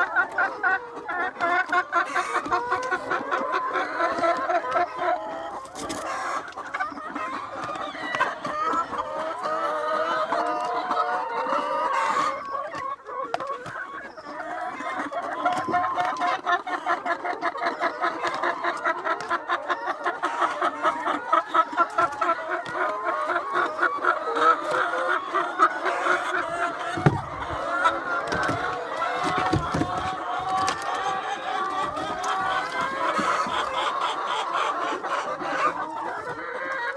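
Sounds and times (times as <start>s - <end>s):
hens clucking: 0.0s - 36.9s.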